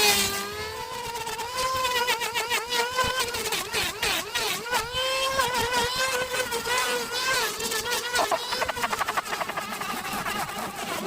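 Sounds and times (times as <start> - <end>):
small motor running fast: 0.0 - 11.0.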